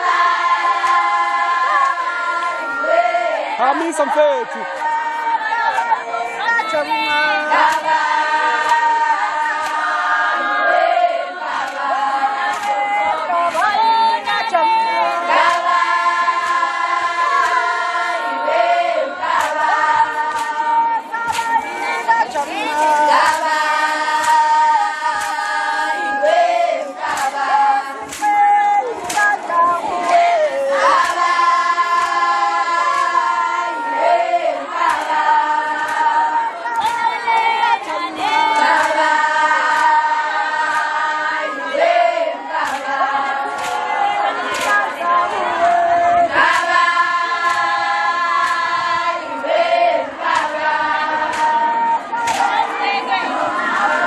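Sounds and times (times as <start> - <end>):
women singing in unison: 0.0 - 54.0.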